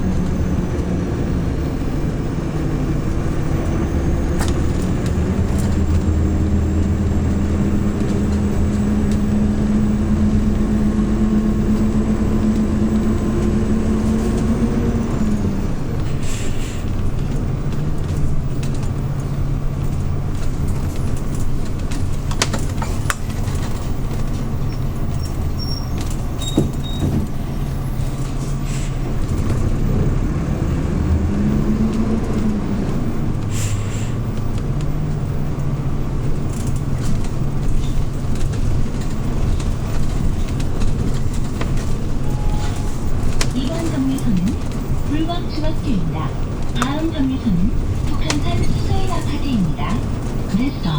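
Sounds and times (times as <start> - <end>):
bus engine running: 0.0 - 50.9.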